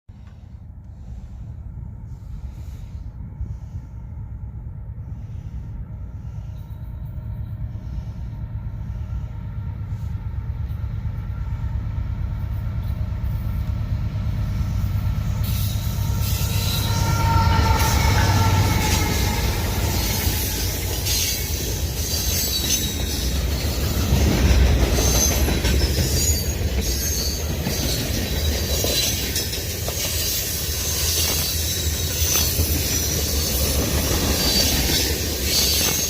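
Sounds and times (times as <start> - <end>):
diesel locomotive engine drone: 0.1 - 36.0
train rail and wheel noise: 0.1 - 36.0.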